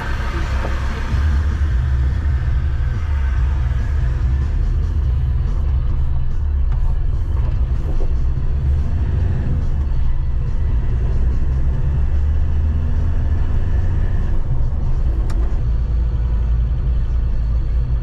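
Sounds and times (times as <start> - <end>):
engine and road noise in cabin: 0.0 - 18.0.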